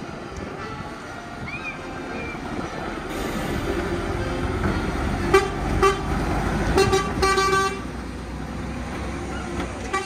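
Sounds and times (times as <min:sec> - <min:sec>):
lorry diesel engine pulling away: 0:01.3 - 0:10.0.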